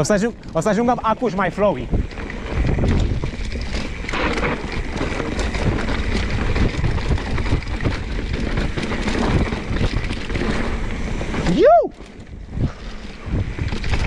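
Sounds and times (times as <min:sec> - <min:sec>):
bike rattling over bumps: 0:00.0 - 0:14.0
wind noise on microphone: 0:00.0 - 0:14.0.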